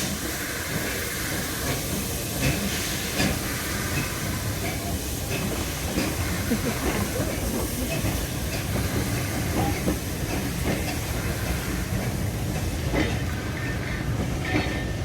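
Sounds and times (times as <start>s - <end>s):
hiss of steam: 0.0s - 15.0s
train rumble: 0.0s - 15.0s.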